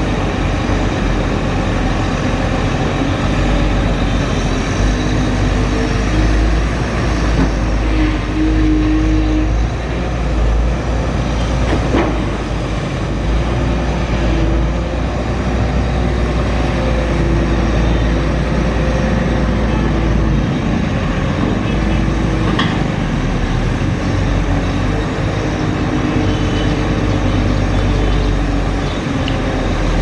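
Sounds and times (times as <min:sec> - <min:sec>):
excavator engine and hydraulics: 0:00.0 - 0:30.0.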